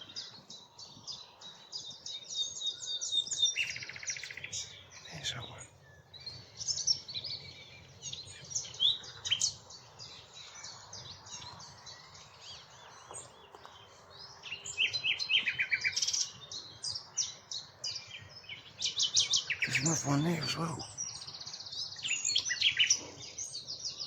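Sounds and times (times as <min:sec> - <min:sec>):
nightingale singing: 0:00.0 - 0:24.0.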